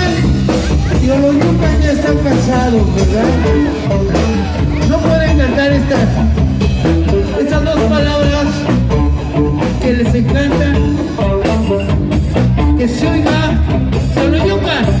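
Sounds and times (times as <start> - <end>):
person singing: 0.0 - 12.0
live rock band playing: 0.0 - 15.0.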